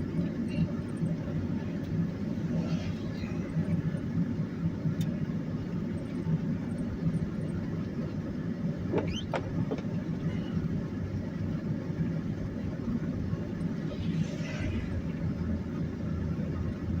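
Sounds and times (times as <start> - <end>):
car driving rumble inside cabin: 0.0 - 17.0.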